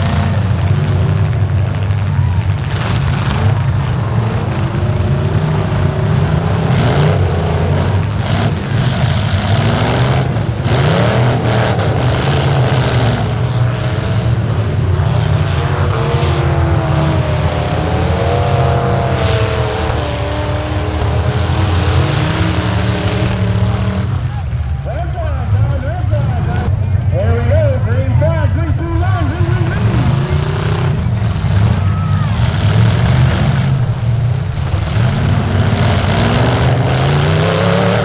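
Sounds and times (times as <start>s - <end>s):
truck engines revving: 0.0s - 38.0s.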